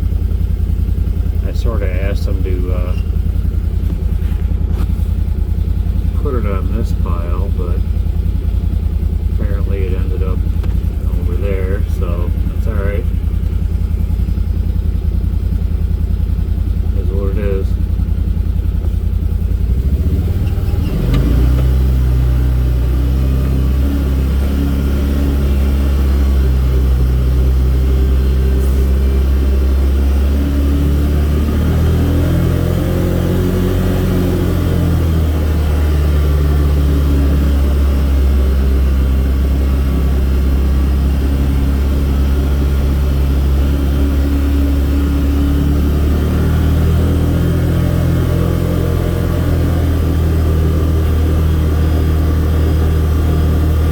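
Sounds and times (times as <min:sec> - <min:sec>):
vehicle engine droning: 0:00.0 - 0:53.9.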